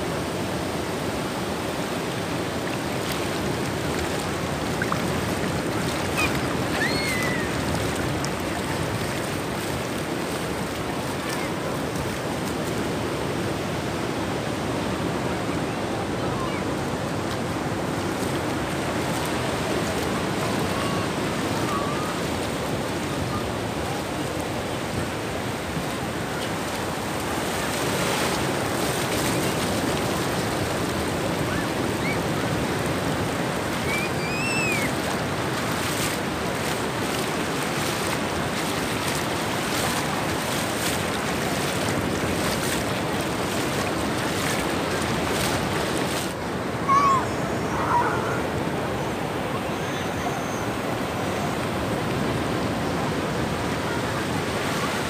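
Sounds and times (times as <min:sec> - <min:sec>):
sea surf on sand: 0:00.0 - 0:55.0.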